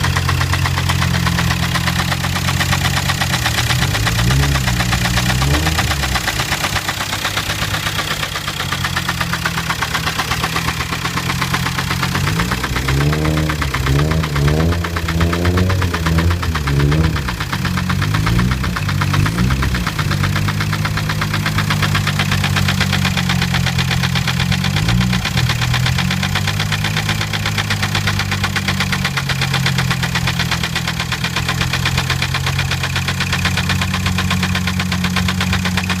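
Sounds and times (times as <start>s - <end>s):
diesel engine idling with knocking: 0.0s - 36.0s.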